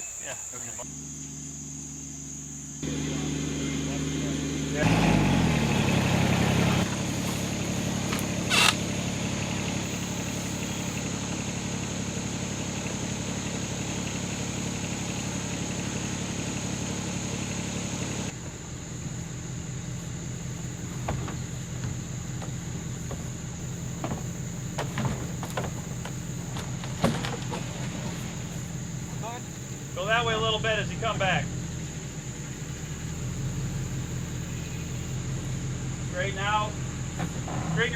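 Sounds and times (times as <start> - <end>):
engine running at low revs: 0.8 - 37.9.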